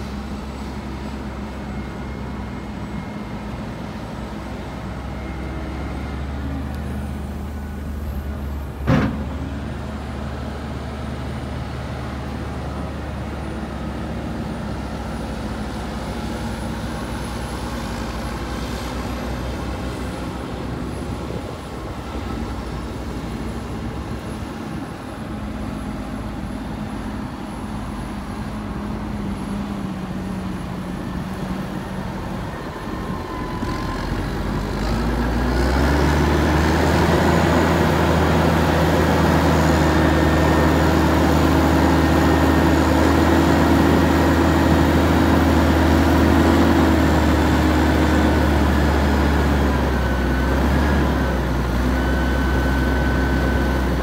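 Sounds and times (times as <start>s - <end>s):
wheel loader diesel engine: 0.0s - 54.0s
tractor diesel engine revving: 6.6s - 54.0s.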